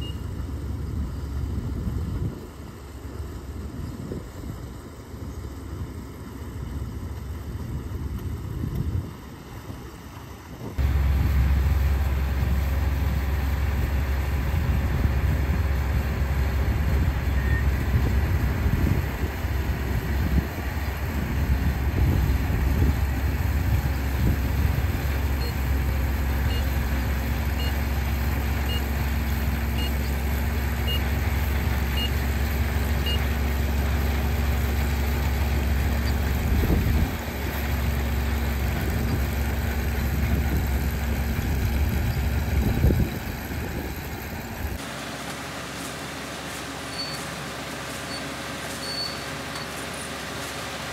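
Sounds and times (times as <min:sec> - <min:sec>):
harvester engine drone: 0:00.0 - 0:50.9.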